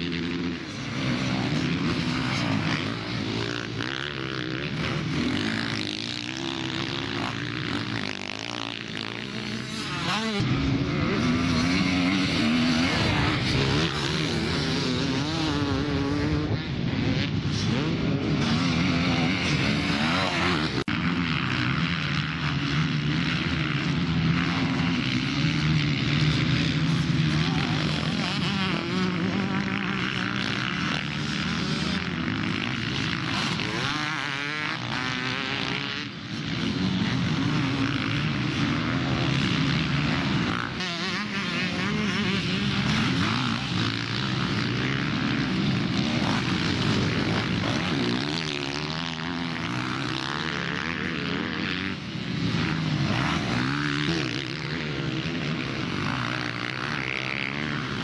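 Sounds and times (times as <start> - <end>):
motorcycle engines racing: 0.0 - 58.0.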